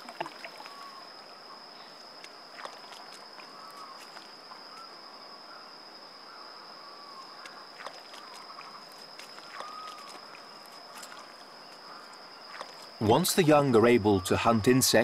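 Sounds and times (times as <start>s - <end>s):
faint short chirping calls: 0.0s - 12.9s
high-pitched insect drone: 0.0s - 15.0s.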